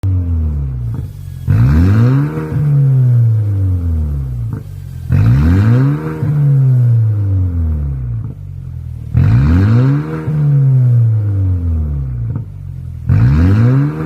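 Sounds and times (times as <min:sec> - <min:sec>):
car engine revving: 0:00.0 - 0:14.0
sharp exhaust pops: 0:00.7 - 0:14.0.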